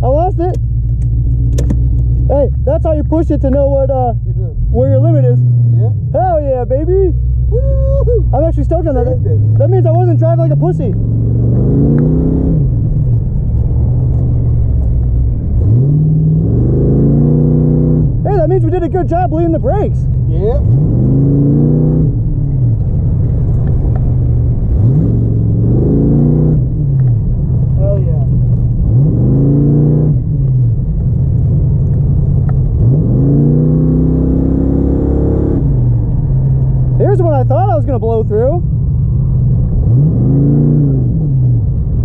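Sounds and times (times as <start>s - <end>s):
car engine revving: 0.0s - 42.0s
low rumble: 0.0s - 42.0s.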